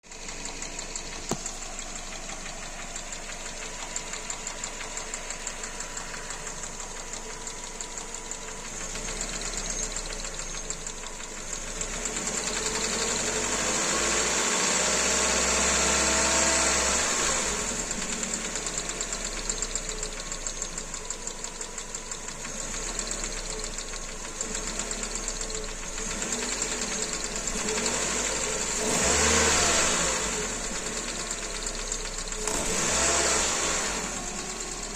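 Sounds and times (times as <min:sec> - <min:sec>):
engine revving: 0:00.0 - 0:20.4, 0:22.4 - 0:34.9
car engine idling with knock: 0:00.0 - 0:34.9.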